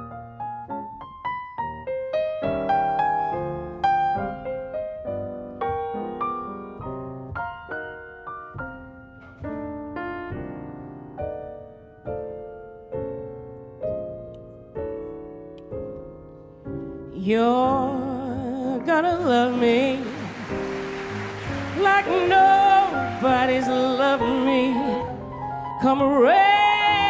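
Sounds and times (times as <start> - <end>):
jazz piano solo: 0.0 - 27.0.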